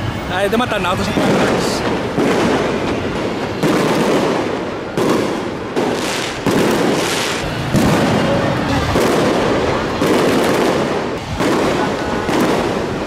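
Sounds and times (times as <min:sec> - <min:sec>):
fireworks bursting: 0:01.0 - 0:13.0.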